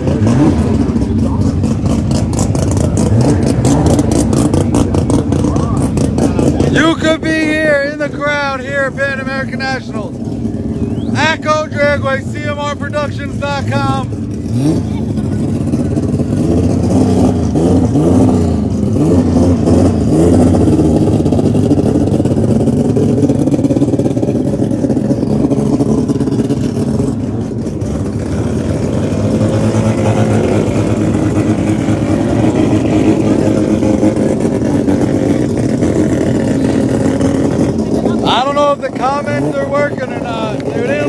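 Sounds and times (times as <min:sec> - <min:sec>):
racing car engines revving: 0:00.0 - 0:41.0.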